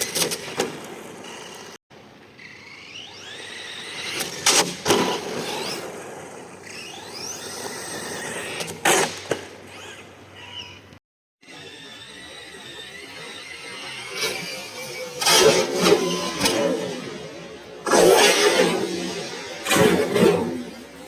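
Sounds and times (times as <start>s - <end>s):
rc car electric motor whining: 2.4s - 8.8s, 9.7s - 10.8s, 11.4s - 21.0s.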